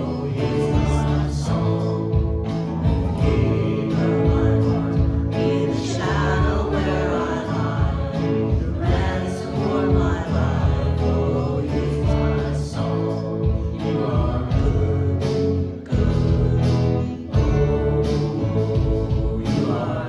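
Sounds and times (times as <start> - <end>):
bass: 0.0 - 20.0
congregation singing: 0.0 - 20.0
guitar: 0.0 - 20.0.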